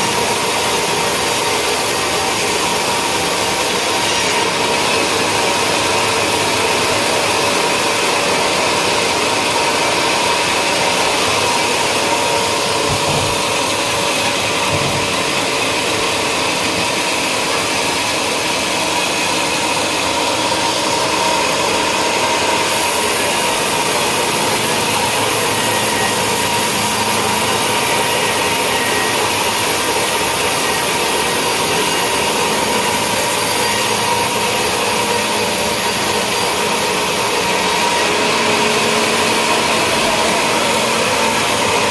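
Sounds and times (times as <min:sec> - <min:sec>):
sawmill mechanical whine: 0:00.0 - 0:41.9.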